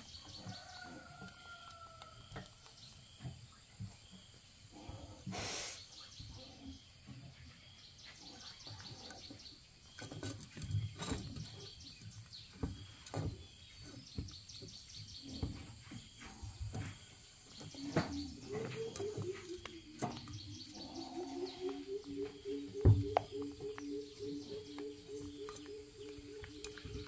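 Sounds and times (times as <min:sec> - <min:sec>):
faint chirping: 0:00.0 - 0:27.0.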